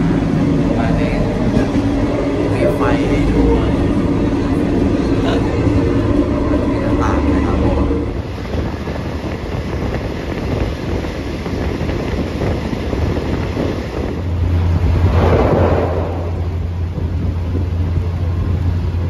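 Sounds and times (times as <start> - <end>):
low hum: 0.0 - 19.0
train rumble inside carriage: 0.0 - 19.0.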